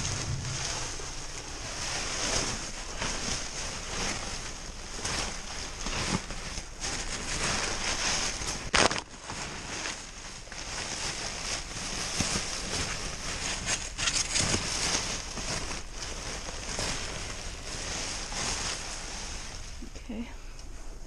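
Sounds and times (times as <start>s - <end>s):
sharp crackle: 0.0s - 19.9s
plastic and paper rustling: 0.0s - 21.0s.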